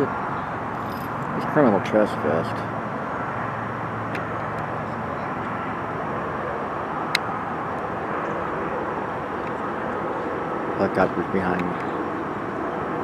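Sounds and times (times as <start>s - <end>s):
helicopter drone overhead: 0.0s - 13.0s.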